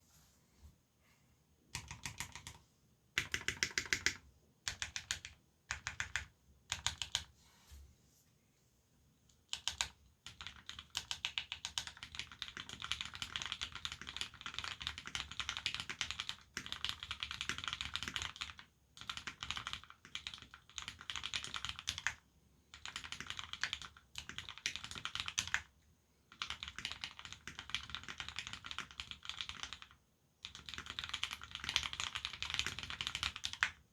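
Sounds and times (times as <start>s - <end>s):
mechanical keyboard typing: 1.8s - 2.6s, 3.2s - 7.3s, 9.4s - 25.7s, 26.3s - 33.8s.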